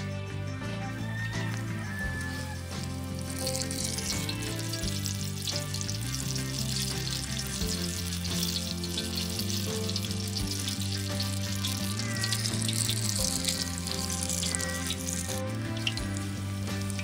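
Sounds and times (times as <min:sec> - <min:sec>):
background music with chords: 0:00.0 - 0:17.0
chillies deep-frying in oil: 0:01.0 - 0:17.0.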